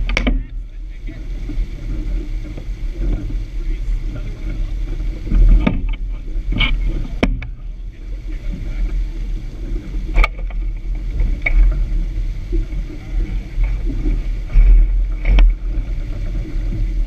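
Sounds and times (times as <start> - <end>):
low steady rumble: 0.0 - 17.0
water rushing along boat hull: 0.0 - 17.0.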